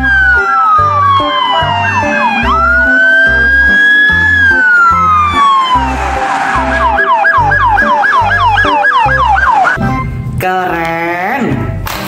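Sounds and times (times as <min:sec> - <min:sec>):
police siren wail and yelp: 0:00.0 - 0:09.9
electronic beat of low thuds: 0:00.0 - 0:10.1.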